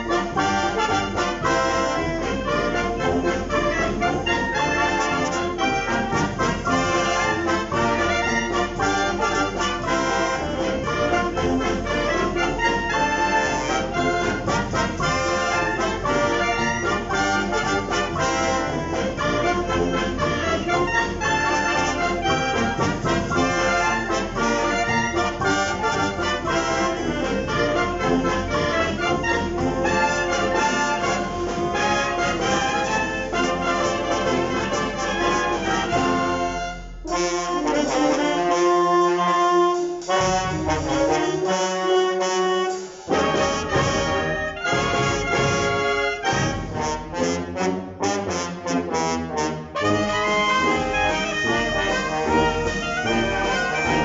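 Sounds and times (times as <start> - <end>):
brass instruments: 0.0 - 54.0
wind band playing: 0.0 - 54.0.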